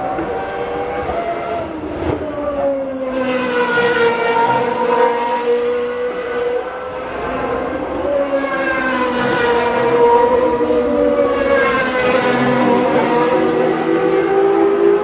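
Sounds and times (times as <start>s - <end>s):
race car engines at high revs: 0.0s - 15.0s
race cars passing: 0.0s - 15.0s.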